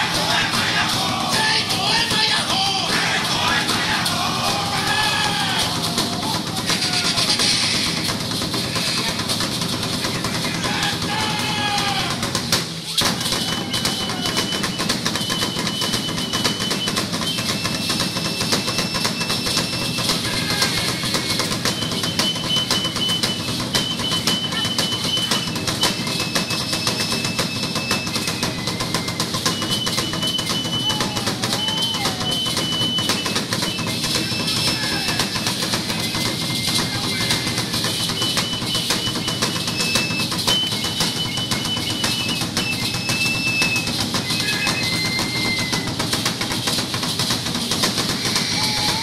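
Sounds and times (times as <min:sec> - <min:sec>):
fast dense drumming: 0:00.0 - 0:49.0.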